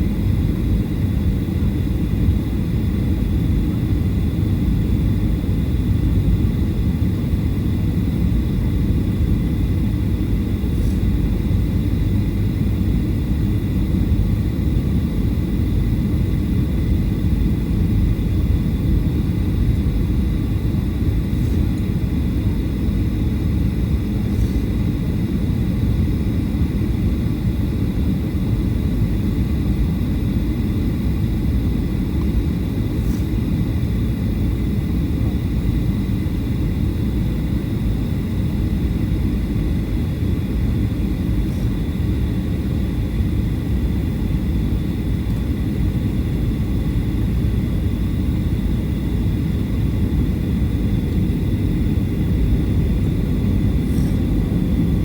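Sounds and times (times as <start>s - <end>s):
airliner cabin rumble: 0.0s - 55.0s
faint high whine: 0.0s - 55.0s.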